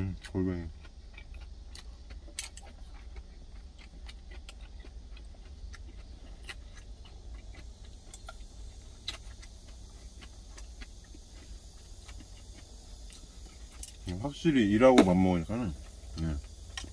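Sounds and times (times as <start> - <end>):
chewing: 0.0 - 16.9
low hum: 0.0 - 16.9.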